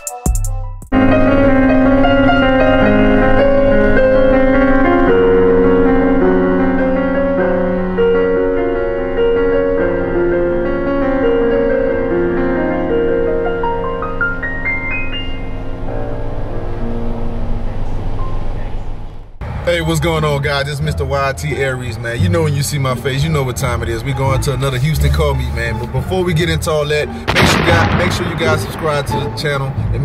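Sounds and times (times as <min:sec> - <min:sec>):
keyboard background music: 0:00.0 - 0:19.0, 0:19.8 - 0:30.0.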